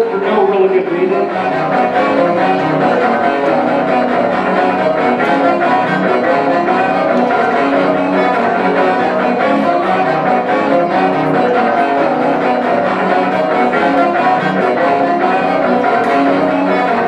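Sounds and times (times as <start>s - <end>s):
distorted electric guitar solo: 0.0s - 17.0s
sustained backing chords: 0.0s - 17.0s.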